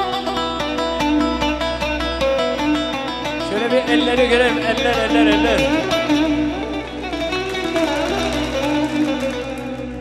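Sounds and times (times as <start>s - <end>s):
electric lute picked quickly: 0.0s - 10.0s.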